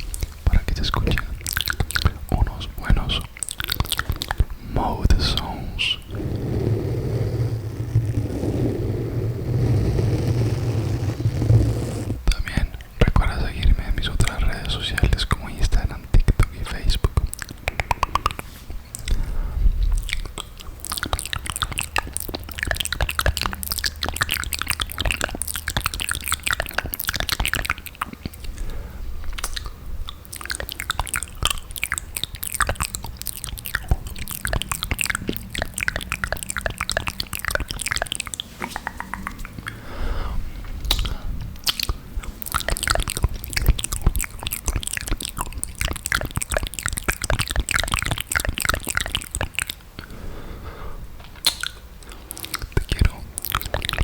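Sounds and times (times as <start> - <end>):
tongue clicks: 0.0 - 11.5, 12.1 - 39.8, 40.7 - 50.2, 51.2 - 54.0
saliva crackles: 0.0 - 12.8, 14.1 - 39.8, 40.7 - 50.2, 51.3 - 54.0
lip smacks: 0.0 - 39.9, 40.6 - 50.2, 51.2 - 54.0.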